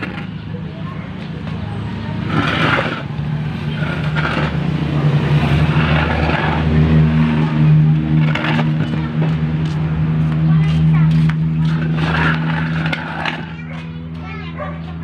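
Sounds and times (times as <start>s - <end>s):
scraping rustling noises: 0.0s - 15.0s
vehicle engine running: 0.0s - 15.0s.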